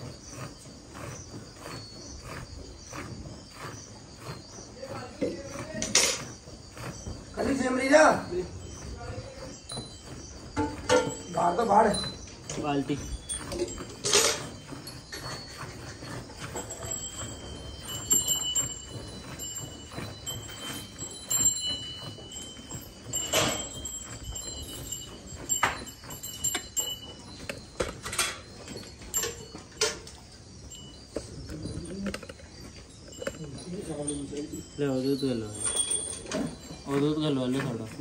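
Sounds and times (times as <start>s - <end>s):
faint ringing tones: 6.8s - 38.0s.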